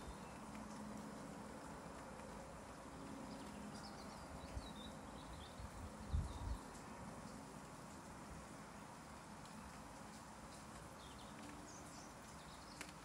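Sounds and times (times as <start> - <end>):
light rain on foliage: 0.0 - 13.0.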